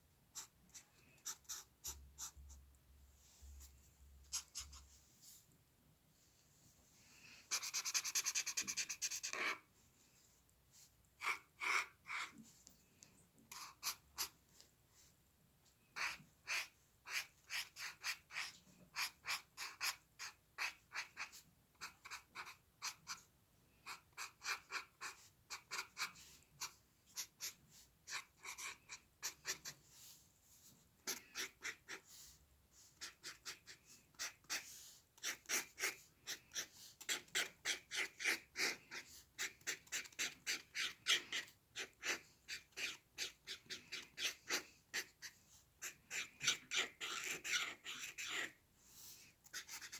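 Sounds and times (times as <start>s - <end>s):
drawing tool scratching on paper: 0.3s - 2.6s, 4.3s - 5.0s, 7.5s - 9.7s, 11.2s - 12.4s, 13.5s - 14.4s, 16.0s - 48.6s, 49.4s - 49.9s.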